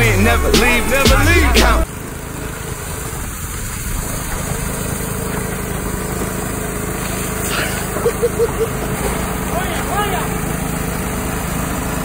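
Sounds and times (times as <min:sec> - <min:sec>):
small engine humming: 0:00.0 - 0:12.0.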